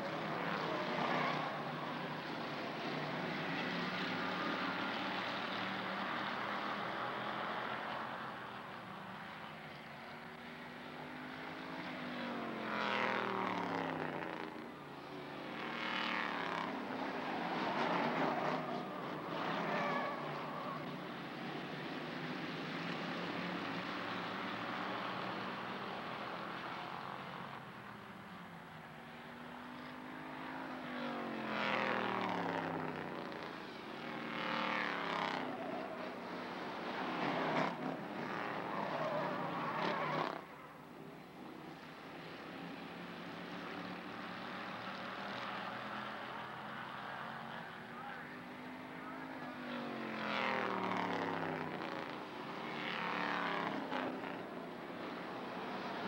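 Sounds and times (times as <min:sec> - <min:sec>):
race cars passing by: 0:00.0 - 0:56.0.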